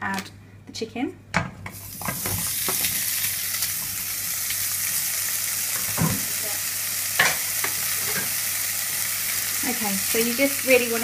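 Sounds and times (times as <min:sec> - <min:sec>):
chicken sizzling in a frying pan: 0:01.7 - 0:11.0.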